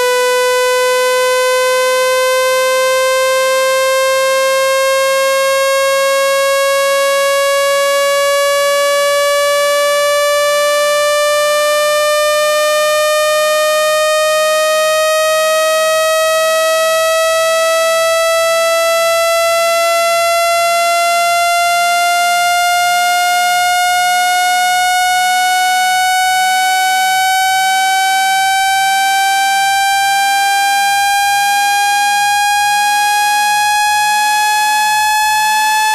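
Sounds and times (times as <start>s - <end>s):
buzzy rising test tone: 0.0s - 35.9s.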